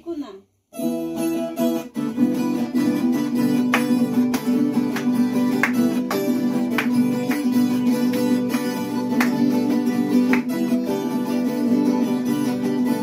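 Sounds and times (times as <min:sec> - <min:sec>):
acoustic guitar: 0:00.1 - 0:13.0
mandolin: 0:00.8 - 0:13.0.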